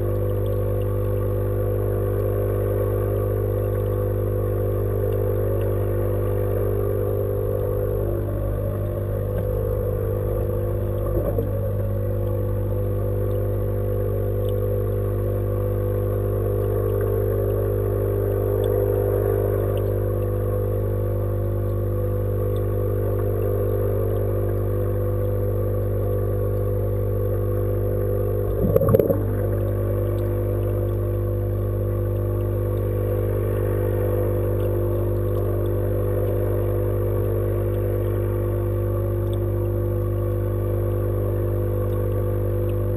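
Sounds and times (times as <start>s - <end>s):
mechanical hum through water: 0.0s - 42.9s.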